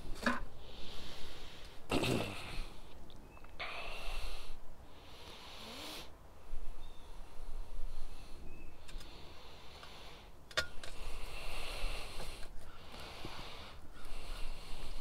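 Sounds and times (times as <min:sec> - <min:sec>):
person breathing heavily: 0:00.6 - 0:02.9, 0:03.6 - 0:15.0.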